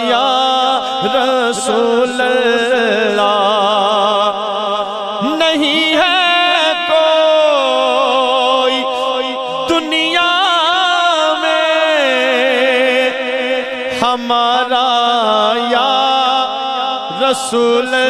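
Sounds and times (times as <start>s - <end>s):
man singing: 0.0s - 18.0s.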